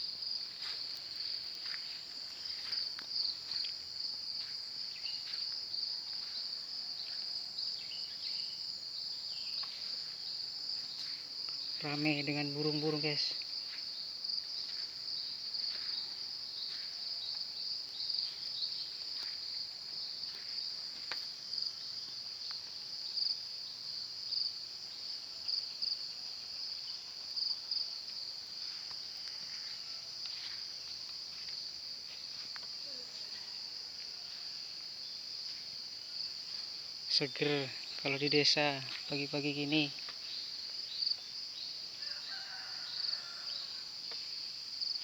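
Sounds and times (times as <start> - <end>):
high-pitched insect trill: 0.0 - 45.0.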